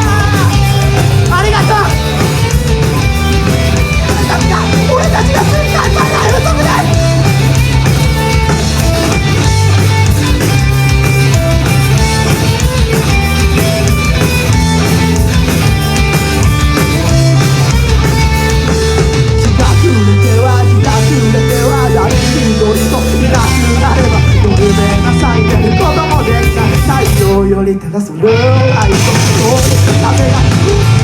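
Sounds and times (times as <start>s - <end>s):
rock band playing: 0.0s - 31.0s.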